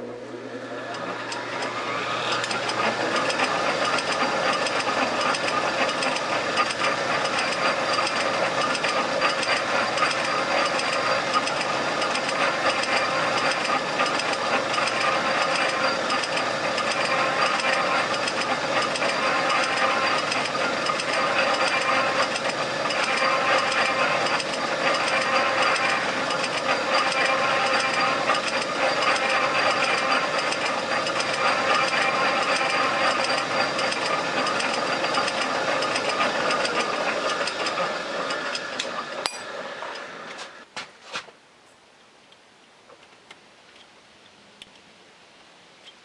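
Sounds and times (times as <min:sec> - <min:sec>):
metal lathe whining: 0:00.0 - 0:40.6.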